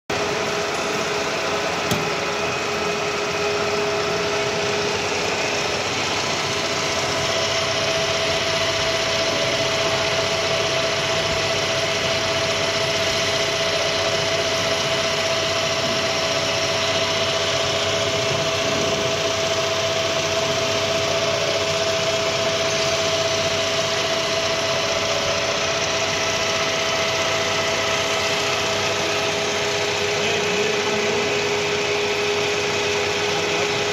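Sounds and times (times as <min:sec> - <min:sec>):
lathe humming: 0:00.1 - 0:33.9.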